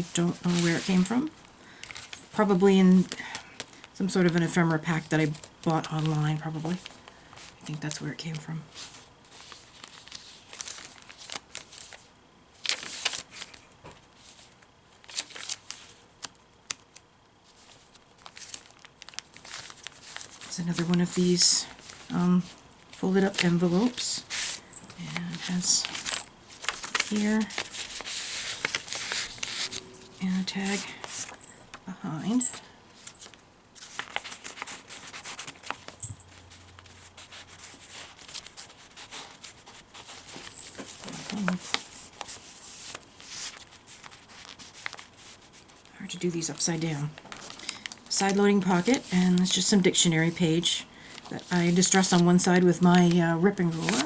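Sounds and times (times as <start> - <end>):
paper rustling: 0.0 - 31.5, 32.2 - 54.0
crisp clicks from handling pages: 0.4 - 2.3, 5.2 - 31.8, 32.4 - 49.8.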